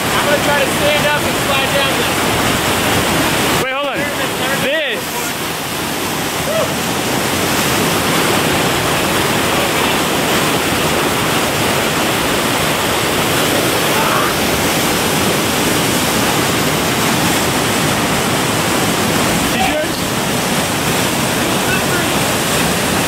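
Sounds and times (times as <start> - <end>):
whitewater rushing over rocks: 0.0 - 23.0.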